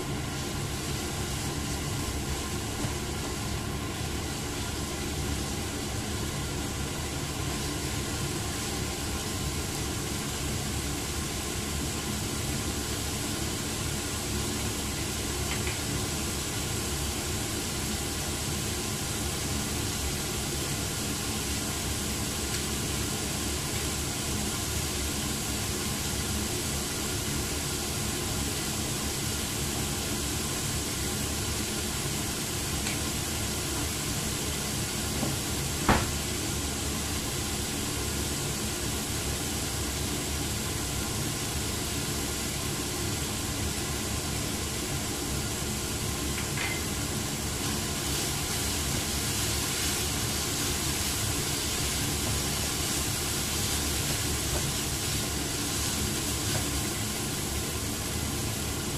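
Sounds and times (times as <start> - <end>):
meat sizzling in a wok: 0.0 - 58.9.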